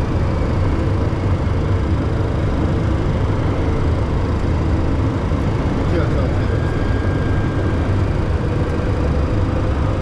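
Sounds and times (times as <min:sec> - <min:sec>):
jet cockpit engine noise: 0:00.0 - 0:10.0.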